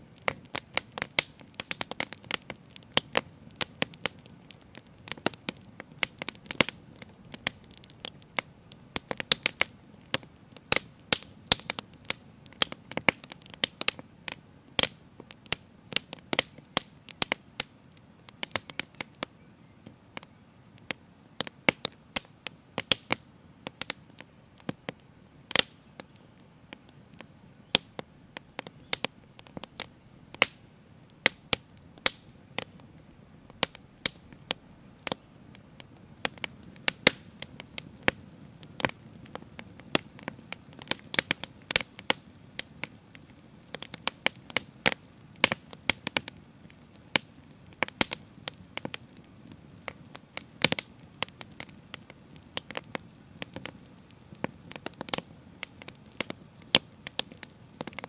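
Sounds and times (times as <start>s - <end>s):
faint low hiss: 0.0s - 58.0s
fire crackling and popping: 0.0s - 58.0s.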